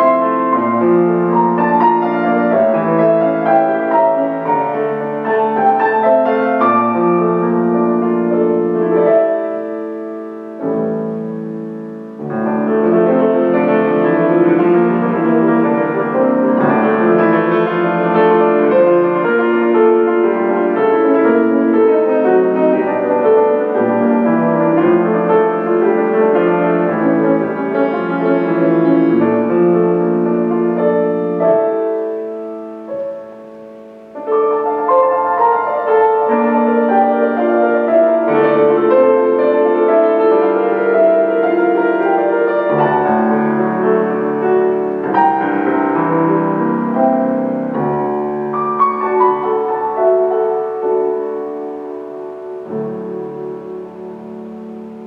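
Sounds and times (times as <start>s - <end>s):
solo grand piano: 0.0s - 55.0s.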